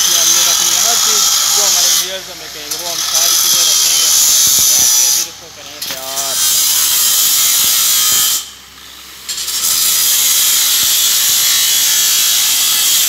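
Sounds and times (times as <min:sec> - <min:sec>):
angle grinder cutting steel pipe: 0:00.0 - 0:13.0.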